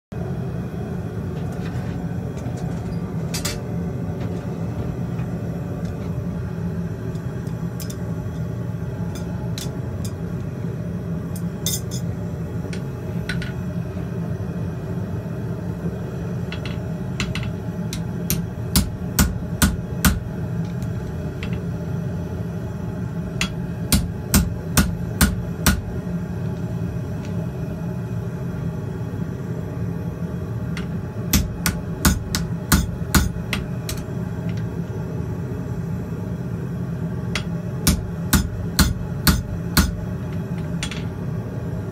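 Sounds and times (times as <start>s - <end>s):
gas forge rumble: 0.1s - 41.9s.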